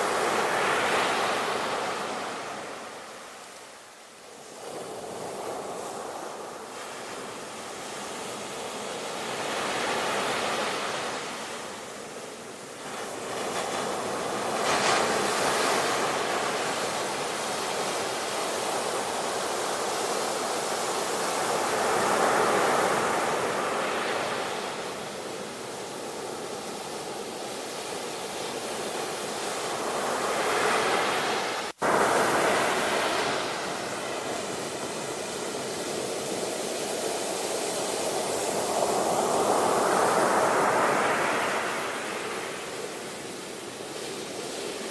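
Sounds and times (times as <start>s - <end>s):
sea waves surging: 0.0s - 44.9s.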